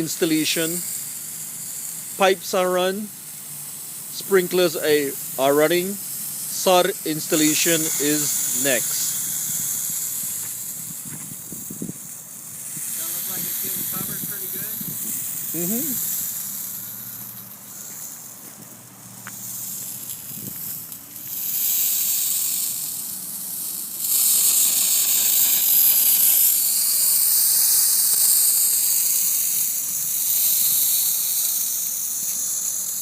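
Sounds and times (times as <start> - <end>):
sprinkler spraying water: 0.0 - 33.0.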